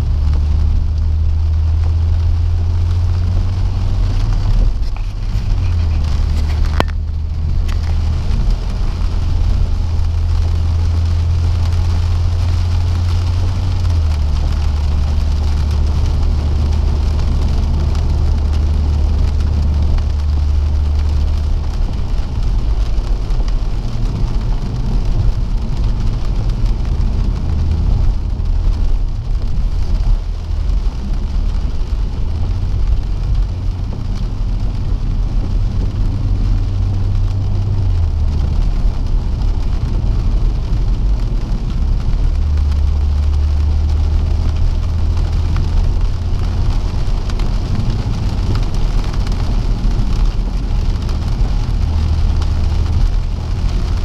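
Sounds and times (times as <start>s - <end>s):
low engine drone: 0.0s - 54.0s
rain on windscreen: 0.0s - 54.0s
tyres hissing on wet road: 0.0s - 54.0s.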